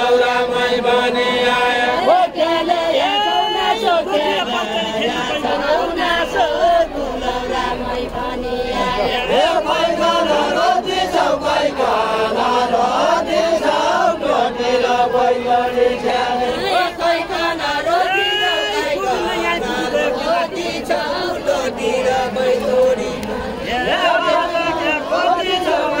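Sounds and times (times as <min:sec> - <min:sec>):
group singing without instruments: 0:00.0 - 0:26.0.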